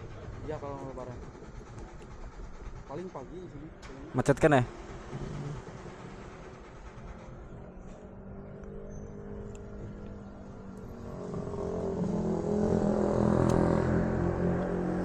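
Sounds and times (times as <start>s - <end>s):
vehicle engine running: 0.0s - 4.0s, 4.6s - 15.0s.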